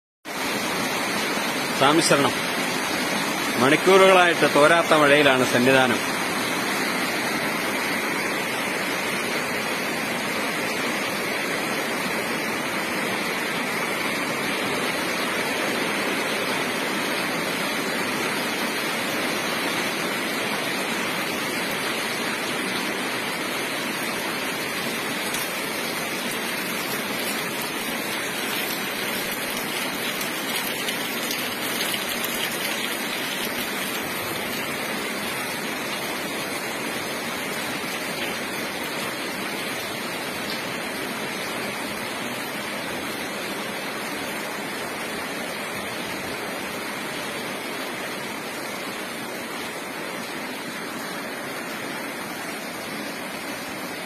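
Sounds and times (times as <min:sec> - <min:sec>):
heavy rain pouring: 0:00.3 - 0:54.0.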